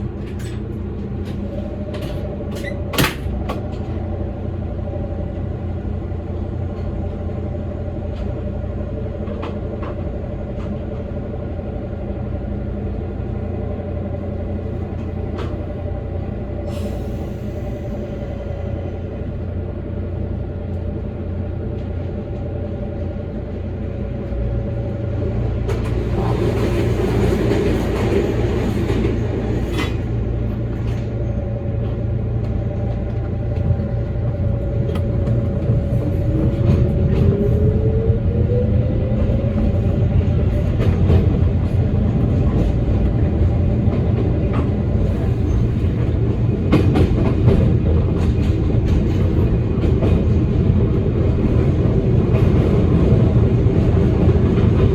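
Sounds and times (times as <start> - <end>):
train rumbling along track: 0.0 - 54.9.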